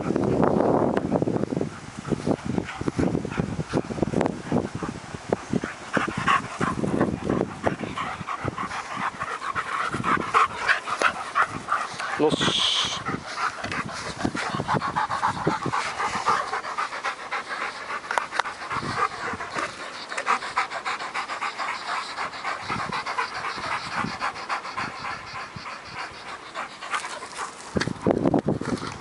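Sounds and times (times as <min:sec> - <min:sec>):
dog panting: 0:00.0 - 0:29.0.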